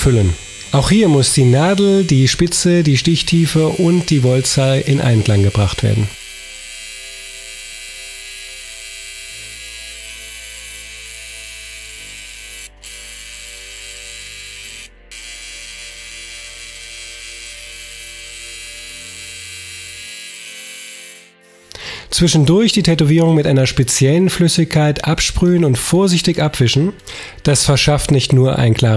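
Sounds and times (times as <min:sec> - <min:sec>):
tattoo machine buzzing: 0:00.0 - 0:23.3.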